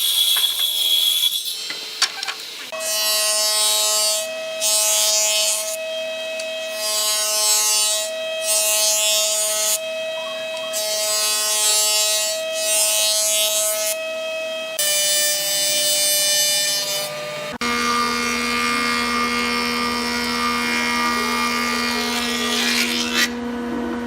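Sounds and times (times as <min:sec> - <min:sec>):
power tool sanding wood: 0:02.7 - 0:14.0, 0:14.8 - 0:23.4.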